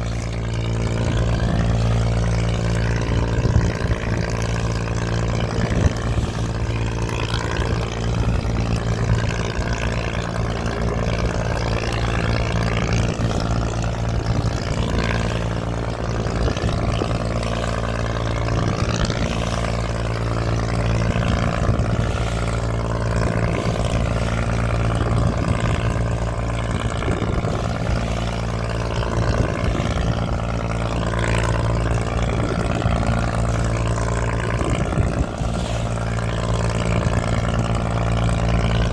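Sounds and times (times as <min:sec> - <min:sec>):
boat engine running: 0:00.0 - 0:38.9
water rushing: 0:00.0 - 0:38.9
wind: 0:00.0 - 0:38.9.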